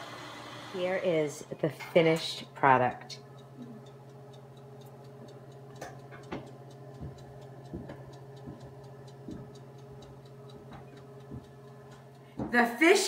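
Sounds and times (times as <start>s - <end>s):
light regular ticking: 1.5s - 13.0s.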